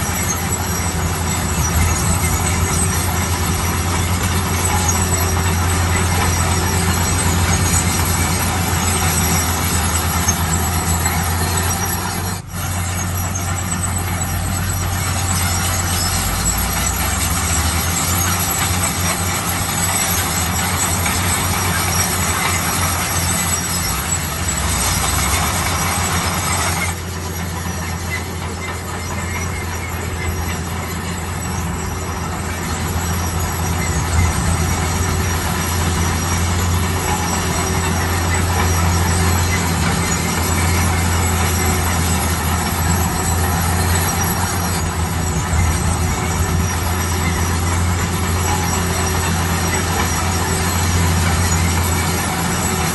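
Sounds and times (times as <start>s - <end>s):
dense mechanical noise: 0.0s - 52.9s
heavy machinery engine drone: 0.0s - 52.9s.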